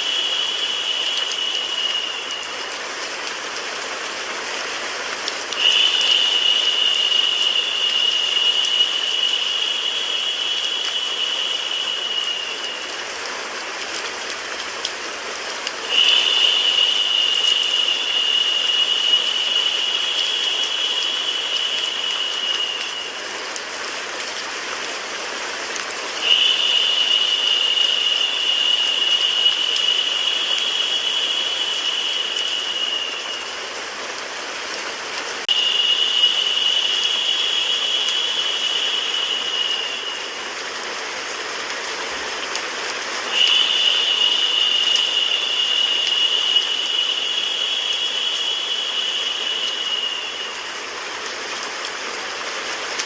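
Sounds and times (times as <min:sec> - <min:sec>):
high steady whine: 0:00.0 - 0:04.0, 0:05.2 - 0:13.3, 0:15.7 - 0:24.3, 0:26.2 - 0:34.3, 0:35.5 - 0:41.0, 0:43.1 - 0:52.2
rain with white noise hiss: 0:00.0 - 0:53.0.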